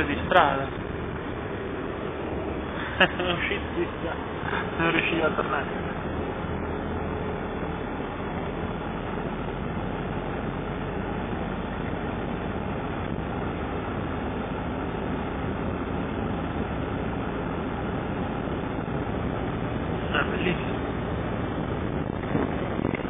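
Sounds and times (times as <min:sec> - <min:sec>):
engine and road noise: 0:00.0 - 0:23.0.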